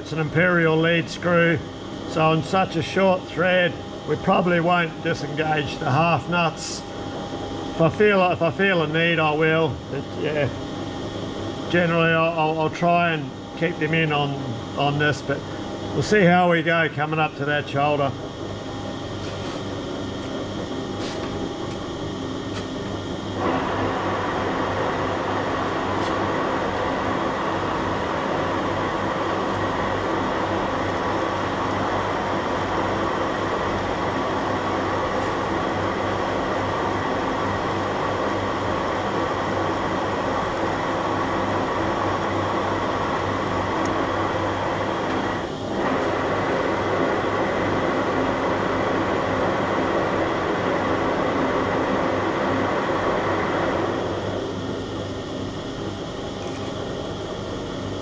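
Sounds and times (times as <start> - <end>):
metal lathe running: 0.0 - 58.0.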